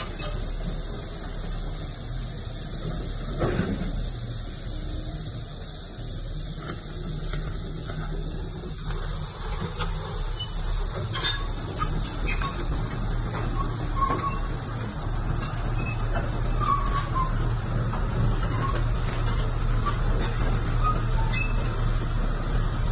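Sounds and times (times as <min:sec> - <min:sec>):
excavator diesel engine rumbling: 0:00.0 - 0:22.9
high hiss: 0:00.0 - 0:22.9.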